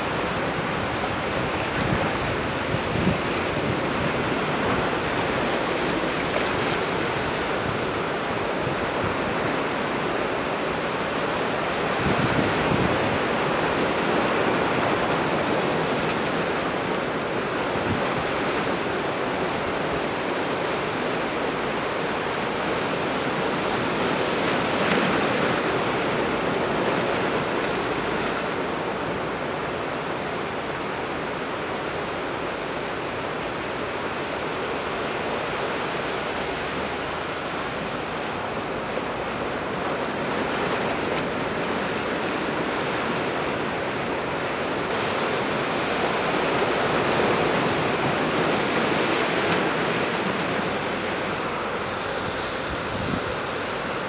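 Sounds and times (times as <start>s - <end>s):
waves: 0.0s - 54.0s
wind: 0.0s - 54.0s.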